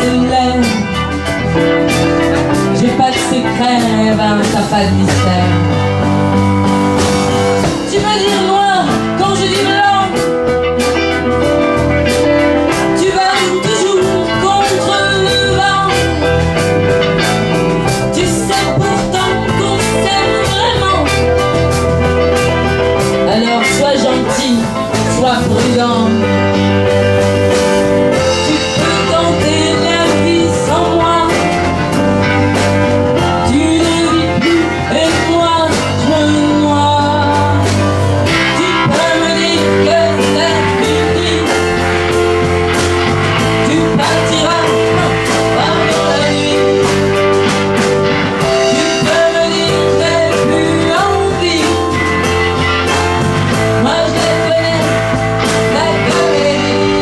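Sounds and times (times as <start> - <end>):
drums: 0.0 - 57.0
electric guitar: 0.0 - 57.0
keyboard: 0.0 - 57.0.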